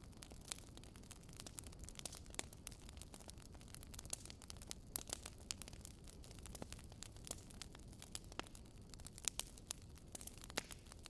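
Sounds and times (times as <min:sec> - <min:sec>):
low steady hiss: 0:00.0 - 0:11.0
static-like crackle: 0:00.0 - 0:11.0.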